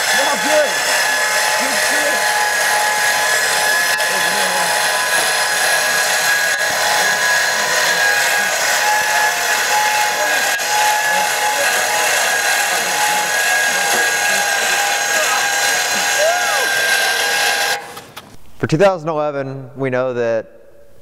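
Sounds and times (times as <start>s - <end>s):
machine whining at high speed: 0.0s - 18.2s.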